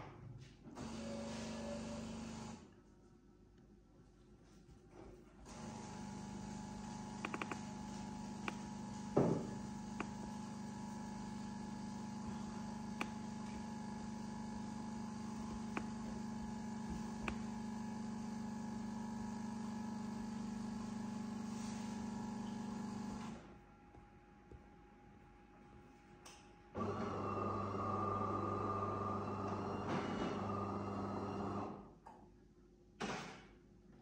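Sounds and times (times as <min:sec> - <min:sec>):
low electrical motor hum: 0:00.3 - 0:33.0.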